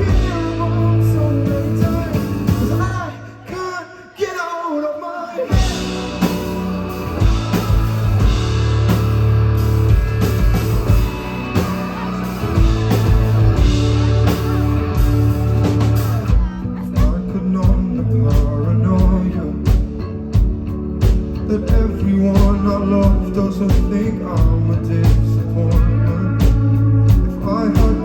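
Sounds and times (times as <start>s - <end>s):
live rock band playing: 0.0s - 3.2s, 5.5s - 28.0s.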